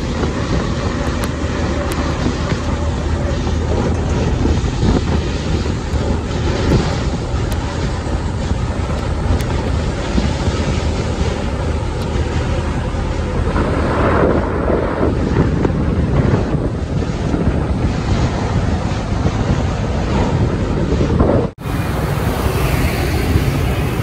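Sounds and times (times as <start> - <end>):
road traffic rumble: 0.0 - 24.0
wind buffeting microphone: 0.0 - 24.0.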